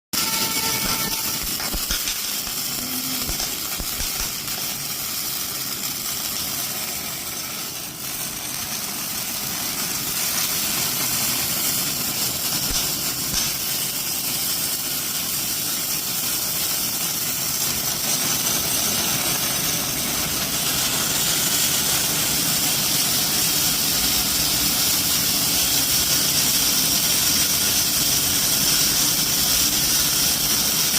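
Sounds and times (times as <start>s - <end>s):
welding machine hissing: 0.2s - 30.9s.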